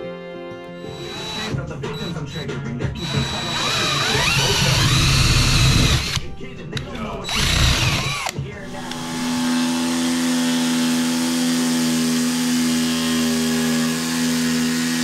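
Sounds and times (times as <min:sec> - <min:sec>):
cordless drill boring wood: 0:00.8 - 0:06.2, 0:07.2 - 0:15.0
jigsaw cutting wood: 0:00.9 - 0:02.0, 0:03.0 - 0:06.2, 0:07.3 - 0:15.0.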